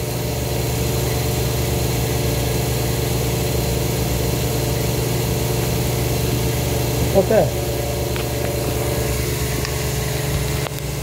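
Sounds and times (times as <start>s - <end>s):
air compressor humming and hissing: 0.0s - 11.0s.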